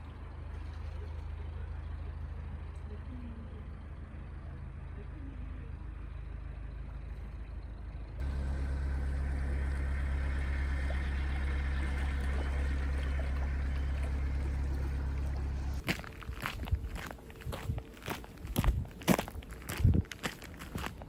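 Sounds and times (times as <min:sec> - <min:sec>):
boat diesel engine running: 0:00.0 - 0:21.0.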